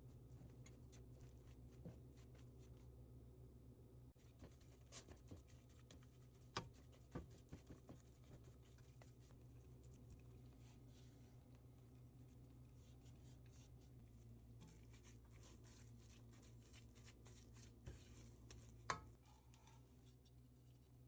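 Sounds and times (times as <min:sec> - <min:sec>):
rubbing and scratching strokes: 0:00.0 - 0:03.0, 0:04.2 - 0:21.0
low steady hum: 0:00.0 - 0:21.0.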